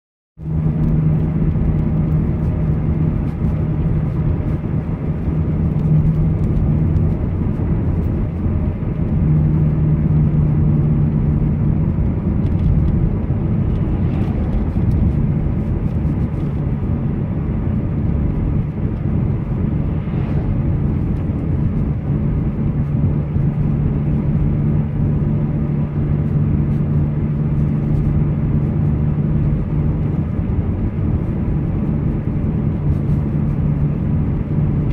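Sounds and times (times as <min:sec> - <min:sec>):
car engine hum: 0:00.4 - 0:34.9
road noise: 0:00.4 - 0:34.9
wind noise: 0:00.4 - 0:34.9.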